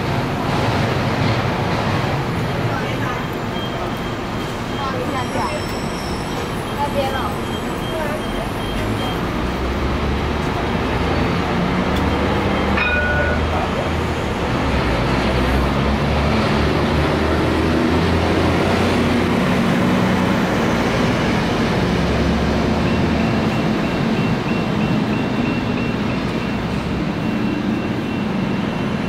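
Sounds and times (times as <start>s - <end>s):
tram rumbling past: 0.0s - 29.0s.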